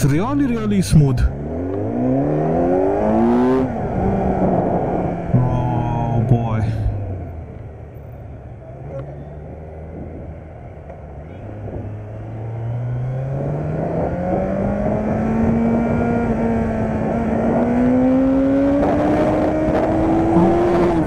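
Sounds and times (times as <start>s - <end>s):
motorcycle engine accelerating: 1.0s - 21.0s.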